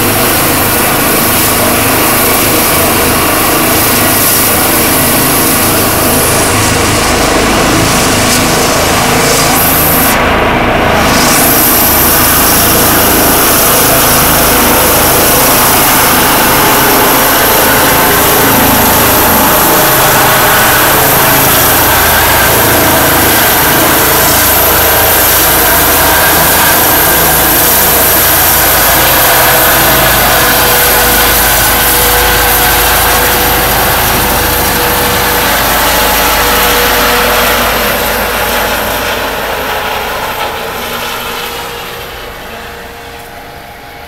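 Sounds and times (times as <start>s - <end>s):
helicopter rotor noise: 0.0s - 44.0s
helicopter turbine whine: 0.0s - 44.0s.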